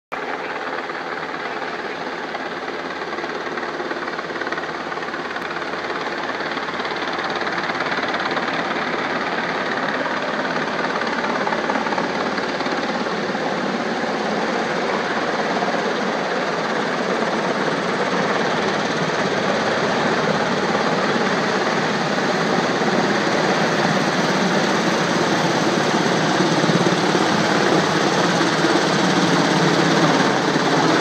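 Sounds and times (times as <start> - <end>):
helicopter rotors and engines: 0.1 - 31.0.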